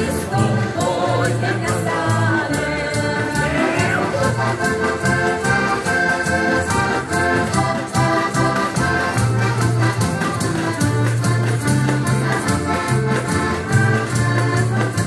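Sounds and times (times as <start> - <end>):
accordions playing folk tune: 0.0 - 15.0.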